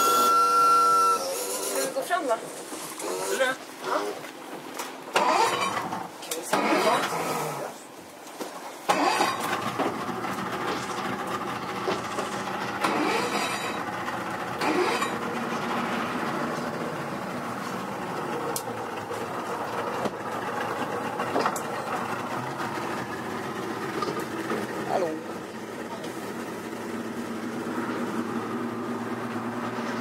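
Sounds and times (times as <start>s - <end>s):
outboard motors droning: 0.0s - 8.0s, 8.8s - 30.0s.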